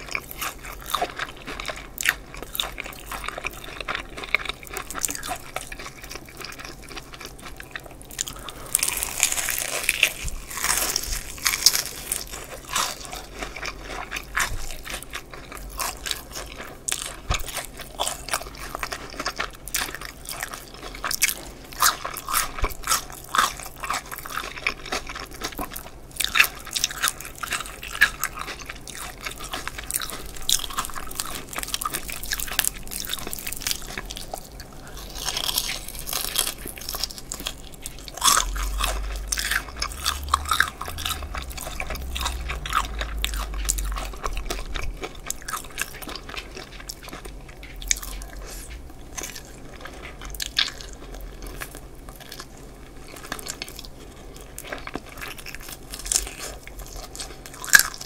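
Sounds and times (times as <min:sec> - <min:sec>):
chewing: 0:00.0 - 0:58.0
crunching fried chicken: 0:00.0 - 0:58.0.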